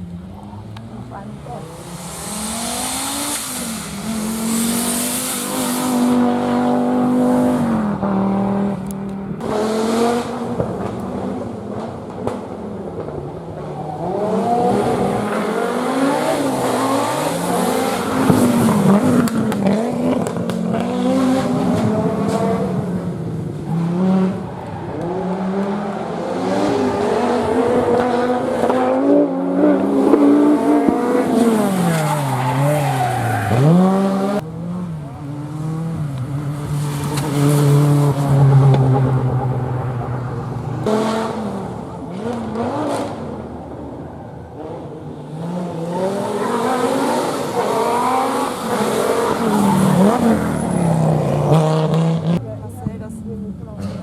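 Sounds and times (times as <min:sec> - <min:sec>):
rally car engine revving: 0:00.2 - 0:52.6.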